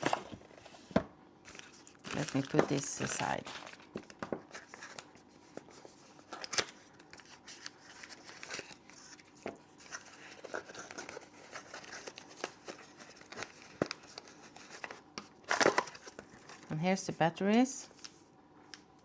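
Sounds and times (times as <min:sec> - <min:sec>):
light packaging rustling: 0:00.0 - 0:16.7, 0:17.8 - 0:18.9.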